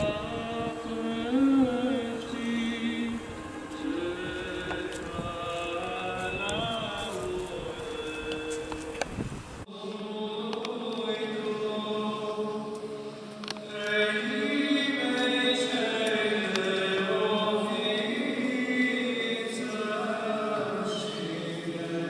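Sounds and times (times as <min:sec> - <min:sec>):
voices singing liturgical chant: 0:00.0 - 0:22.0.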